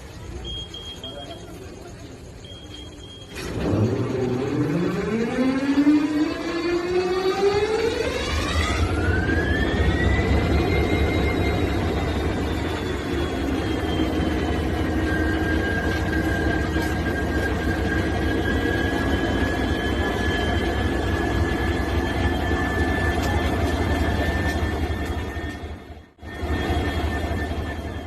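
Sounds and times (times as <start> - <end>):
high engine whine: 0.0 - 28.0
locomotive engine rumbling: 0.0 - 28.0.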